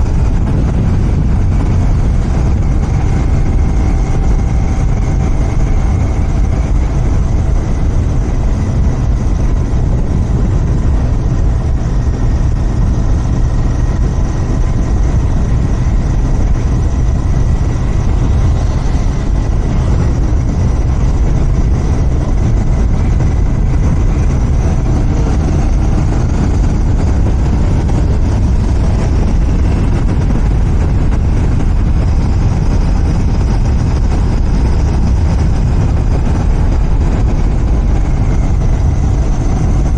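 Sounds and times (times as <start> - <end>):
motorcycle engine low rumble: 0.0 - 39.9.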